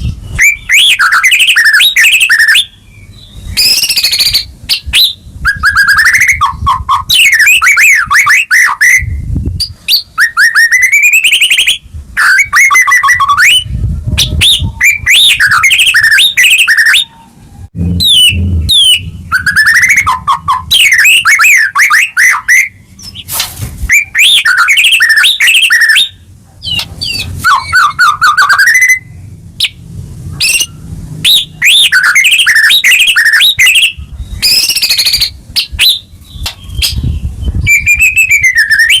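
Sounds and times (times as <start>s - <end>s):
bird singing whistled trills: 0.0s - 23.3s, 23.9s - 29.8s, 30.4s - 39.0s.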